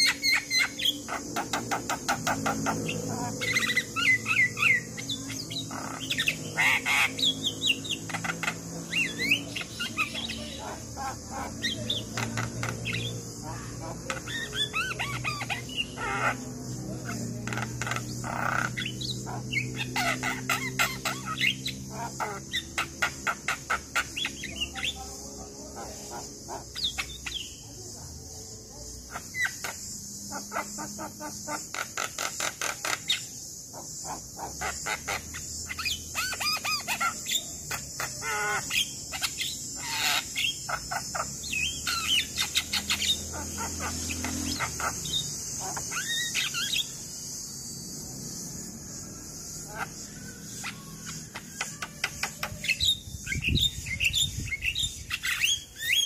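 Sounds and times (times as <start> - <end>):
bird chattering and whistling: 0.0 - 56.0.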